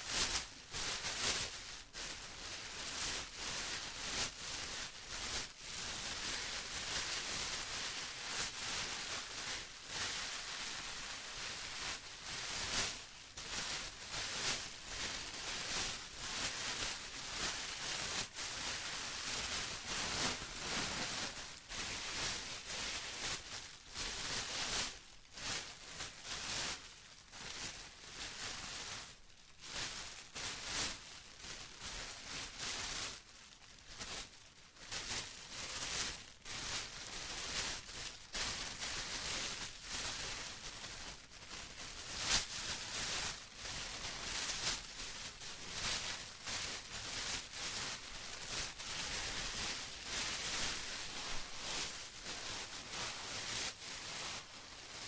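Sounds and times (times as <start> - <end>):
plastic crinkling: 0.1 - 24.8, 25.4 - 55.0.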